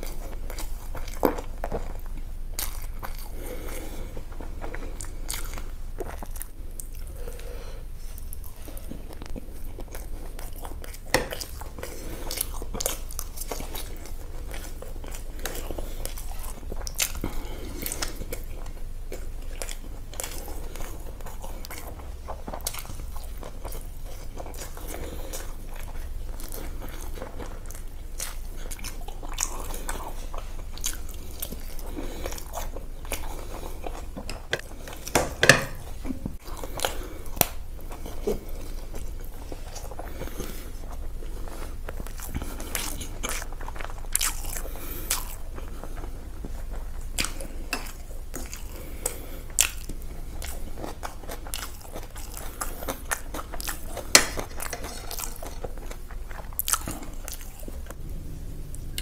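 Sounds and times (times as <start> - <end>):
low steady hum: 0.0 - 59.0
person chewing crunchy food: 0.0 - 59.0.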